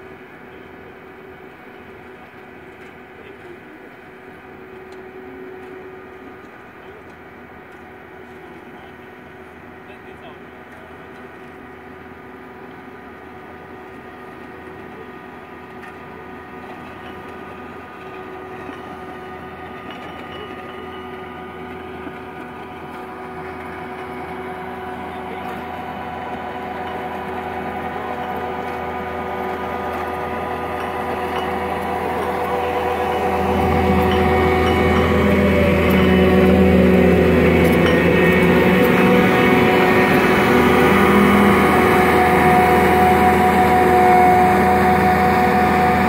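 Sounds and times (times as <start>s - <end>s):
track loader engine running: 0.0s - 46.0s.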